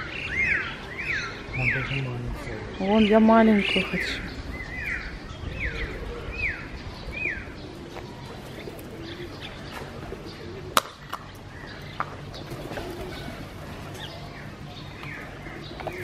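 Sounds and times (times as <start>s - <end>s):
bird chirping: 0.0s - 16.0s
pigeons cooing: 0.0s - 16.0s.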